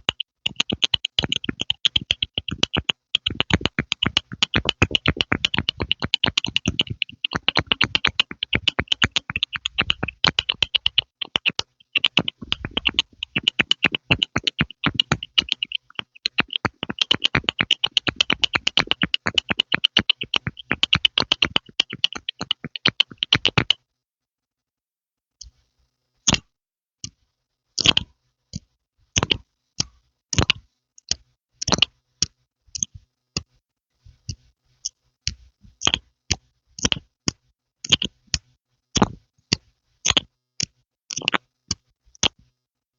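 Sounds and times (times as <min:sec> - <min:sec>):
wet mouth pops and clicks: 0:00.0 - 0:23.8, 0:27.8 - 0:28.1, 0:29.2 - 0:32.9, 0:35.8 - 0:42.4.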